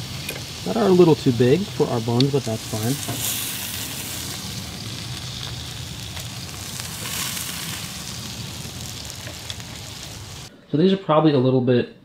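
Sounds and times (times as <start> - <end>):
burger patties sizzling on griddle: 0.0 - 10.5.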